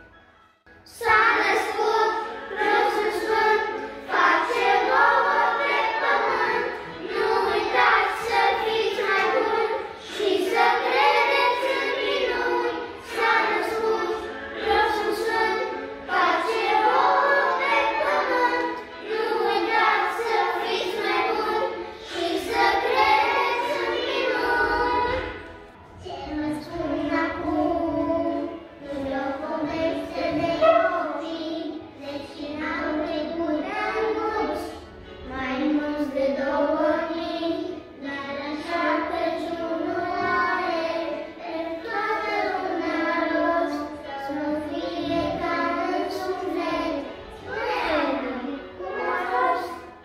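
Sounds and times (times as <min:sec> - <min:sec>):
children singing a carol: 0:00.7 - 0:50.0.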